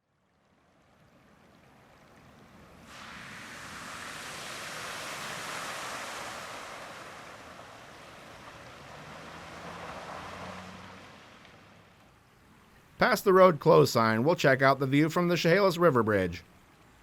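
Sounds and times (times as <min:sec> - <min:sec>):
floodwater rushing: 0:00.3 - 0:17.0.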